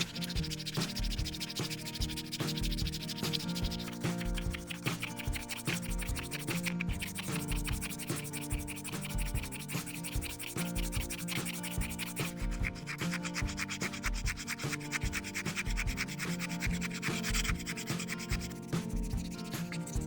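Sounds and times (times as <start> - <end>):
sandpaper rubbing on plastic: 0.0 - 20.0
soft background music: 0.0 - 20.0.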